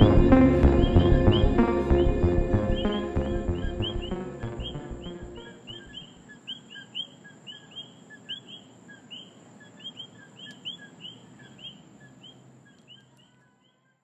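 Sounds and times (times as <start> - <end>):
frogs calling: 2.6 - 14.0.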